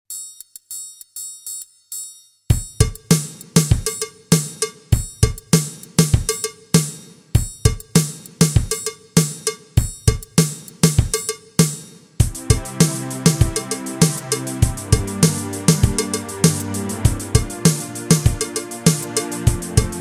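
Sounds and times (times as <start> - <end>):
electronic drum beat: 2.5 - 20.0.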